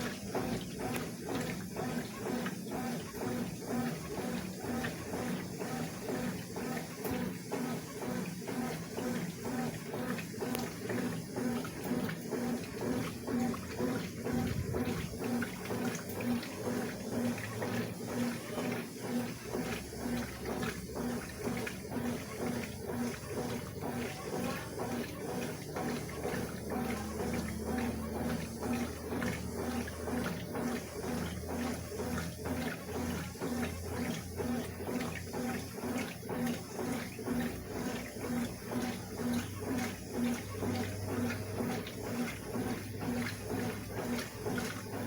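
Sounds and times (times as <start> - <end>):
washing machine swishing clothes: 0.0 - 45.0.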